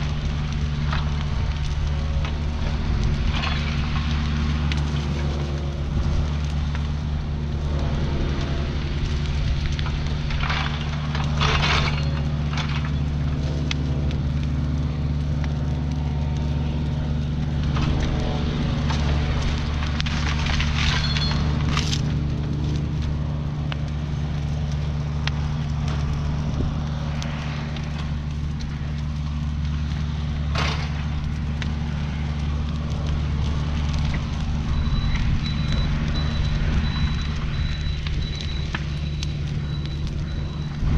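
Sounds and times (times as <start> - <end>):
diesel engine running: 0.0 - 40.9
sharp cracks and snaps: 0.0 - 40.9.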